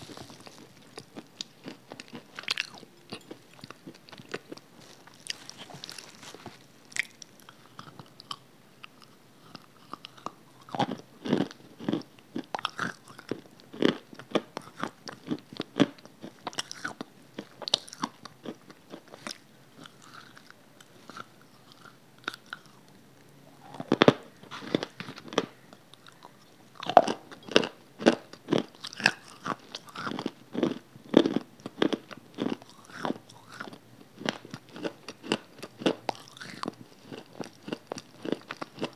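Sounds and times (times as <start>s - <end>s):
biting and chewing crunches: 0.0s - 22.9s, 23.6s - 38.9s.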